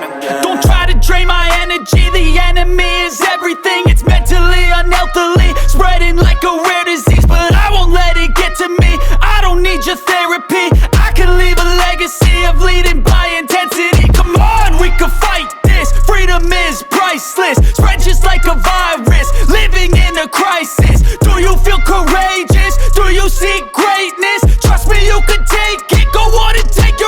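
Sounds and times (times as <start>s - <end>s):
hip hop music with heavy bass: 0.0s - 27.0s
rapped or sung vocals: 0.0s - 27.0s.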